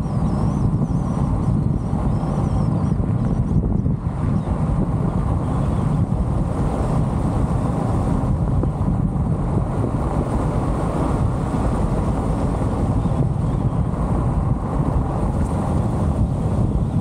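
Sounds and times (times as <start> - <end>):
car wind and road noise: 0.0 - 17.0
wind buffeting microphone: 0.0 - 17.0.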